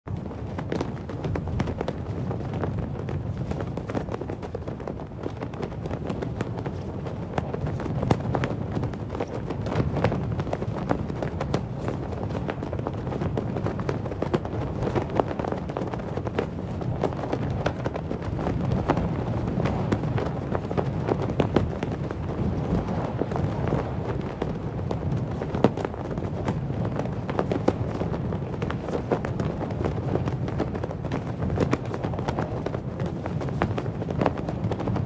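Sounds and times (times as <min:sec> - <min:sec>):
cloth flag flapping: 0:00.1 - 0:35.0
low wind rumble: 0:00.1 - 0:35.0.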